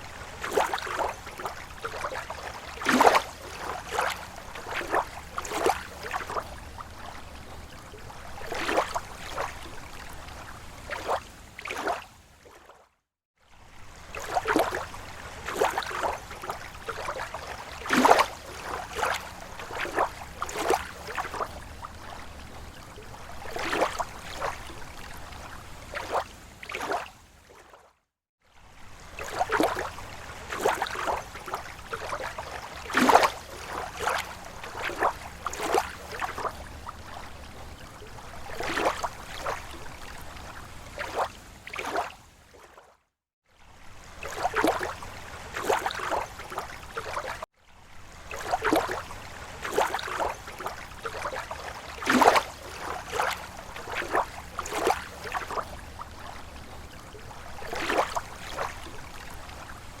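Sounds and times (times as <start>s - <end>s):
lake water lapping shore: 0.0s - 60.0s.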